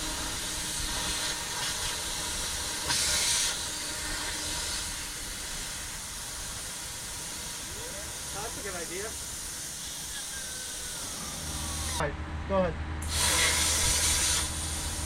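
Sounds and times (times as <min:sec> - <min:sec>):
air rushing through dryer vent: 0:00.0 - 0:12.0, 0:13.0 - 0:15.0.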